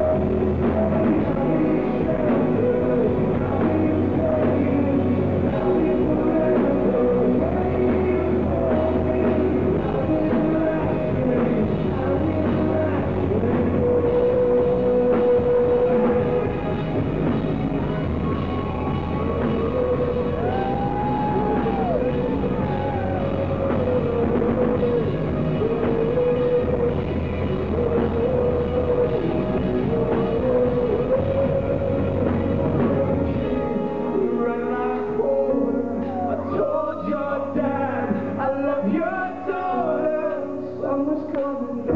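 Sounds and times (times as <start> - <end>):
live rock band playing: 0.0 - 41.9
man singing lead vocal: 0.0 - 41.9.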